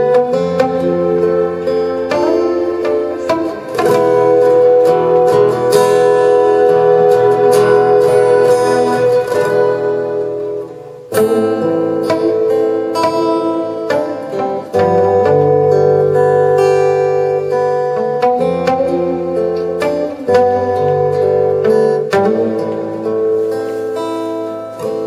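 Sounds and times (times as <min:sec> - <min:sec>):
acoustic guitars strumming: 0:00.0 - 0:25.0
keyboard melody notes: 0:00.0 - 0:25.0.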